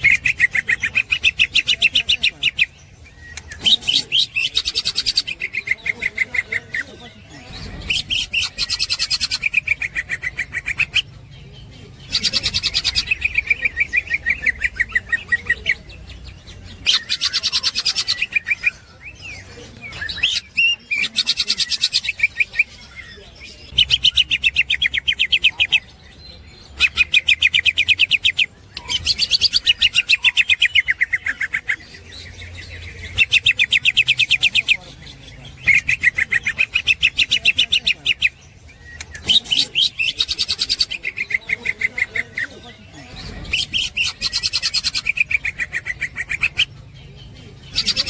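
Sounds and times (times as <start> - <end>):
bird rapid high chatter: 0.0 - 48.0.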